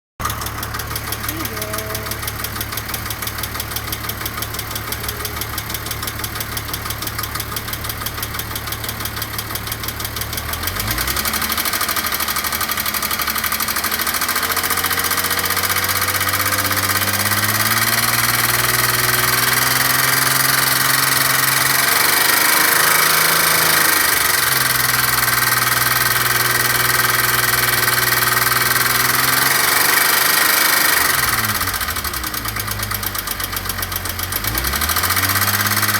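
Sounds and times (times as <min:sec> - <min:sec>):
car engine idling and revving: 0:00.2 - 0:35.9.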